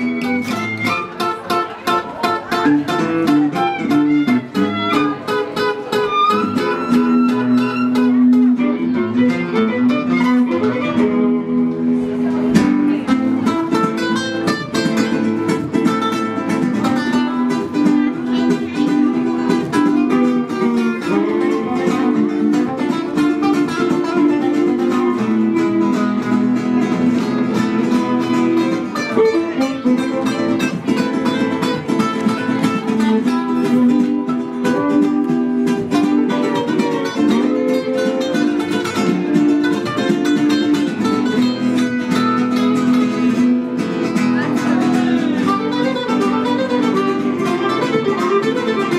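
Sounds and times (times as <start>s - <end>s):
acoustic guitar music: 0.0s - 48.9s.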